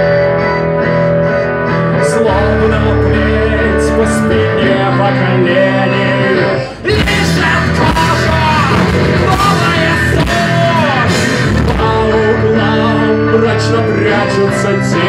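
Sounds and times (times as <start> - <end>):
lead guitar melody bending: 0.0 - 15.0
live rock band playing: 0.0 - 15.0.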